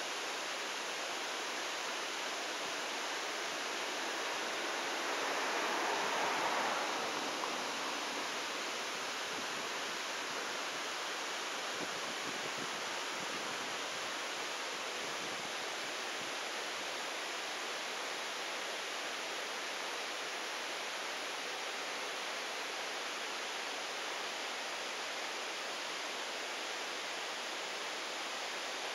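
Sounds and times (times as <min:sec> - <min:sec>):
steady hiss: 0:00.0 - 0:28.9.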